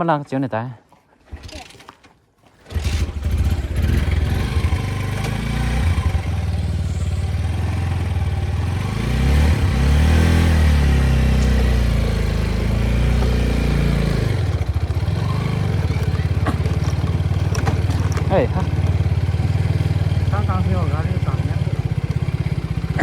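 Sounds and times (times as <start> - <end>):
motorcycle engine running: 2.7 - 23.0.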